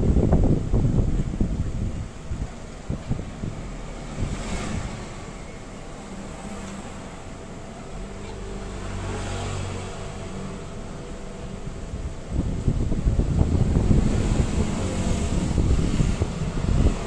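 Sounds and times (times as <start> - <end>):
steady background noise: 0.0 - 17.0
vehicle engine humming: 0.0 - 17.0.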